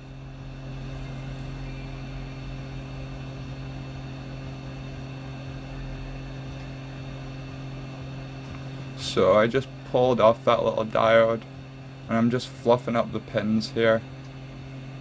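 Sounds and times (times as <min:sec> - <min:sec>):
hot-air rework station blowing: 0:00.0 - 0:15.0
steady electrical hum: 0:00.0 - 0:15.0.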